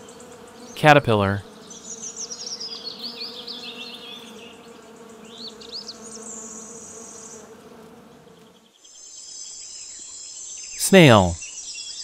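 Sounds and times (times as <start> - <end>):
flying insect buzzing: 0.0 - 0.8, 1.4 - 10.6.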